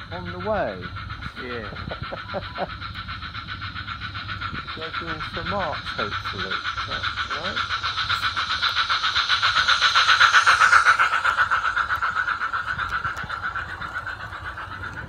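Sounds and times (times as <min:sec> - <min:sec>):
model train running past: 0:00.0 - 0:15.0.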